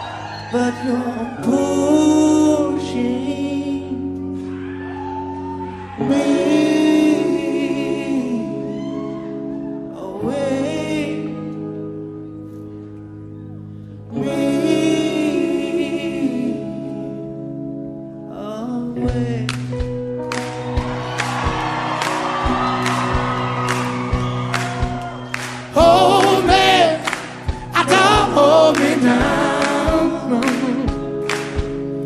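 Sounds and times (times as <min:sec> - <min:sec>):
slow song with singing: 0:00.0 - 0:20.3, 0:25.4 - 0:32.0.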